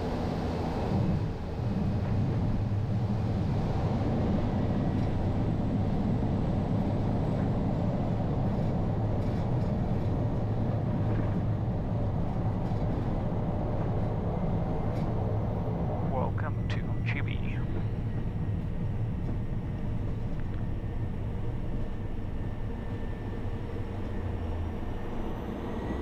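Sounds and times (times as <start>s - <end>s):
turboprop engine drone in cabin: 0.0s - 26.0s.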